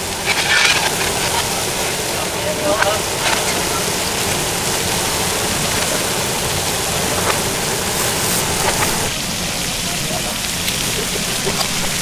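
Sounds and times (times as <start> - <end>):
gas burners rushing: 0.0 - 12.0
reversed sizzling on hot plates: 0.0 - 12.0.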